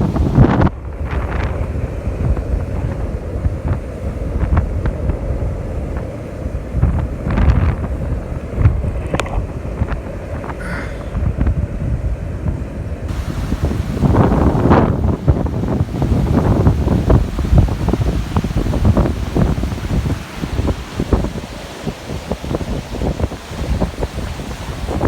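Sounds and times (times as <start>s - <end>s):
surf breaking on beach: 0.0s - 25.0s
wind buffeting microphone: 0.0s - 25.0s.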